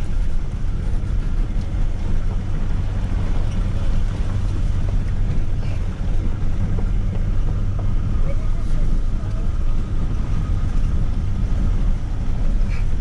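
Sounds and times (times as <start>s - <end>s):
gravel ticking: 0.0s - 13.0s
truck engine rumble: 0.0s - 13.0s.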